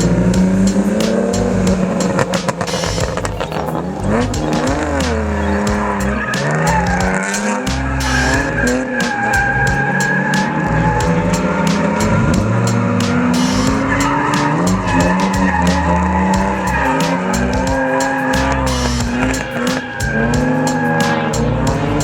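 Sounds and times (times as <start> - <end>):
car engines revving: 0.0 - 22.0
music with a steady beat: 0.0 - 22.0
tyres squealing: 0.0 - 22.0.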